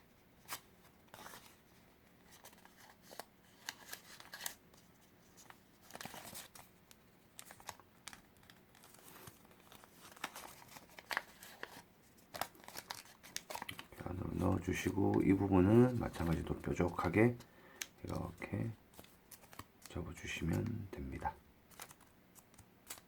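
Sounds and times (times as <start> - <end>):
paper crinkling and rustling: 0.4 - 21.1, 21.7 - 23.0.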